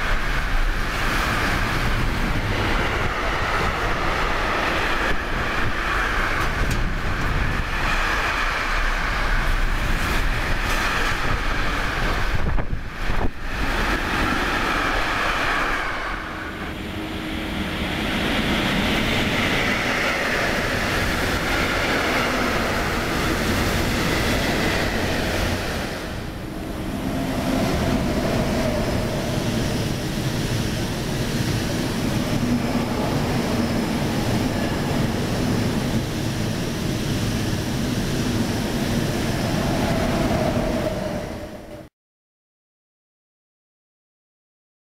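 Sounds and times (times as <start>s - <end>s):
freight train rolling on rails: 0.0s - 41.9s
passenger trains sweeping past: 0.0s - 41.9s.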